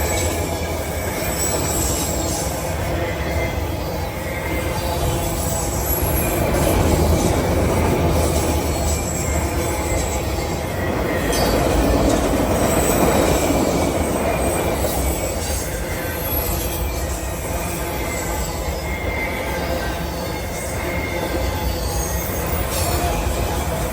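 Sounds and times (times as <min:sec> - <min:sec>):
high squeal of wheels on rail: 0:00.0 - 0:23.9
train wheels rumbling and rattling: 0:00.0 - 0:23.9.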